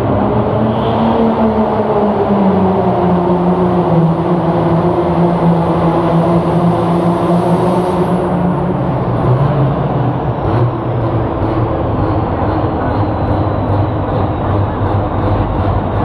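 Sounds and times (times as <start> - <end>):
truck engine running loud: 0.0 - 16.0.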